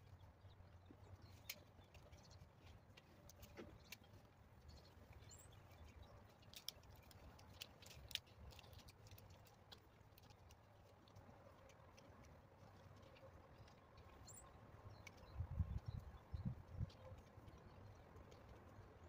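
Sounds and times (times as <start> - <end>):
faint sharp clicks and ticks: 0.0 - 19.0.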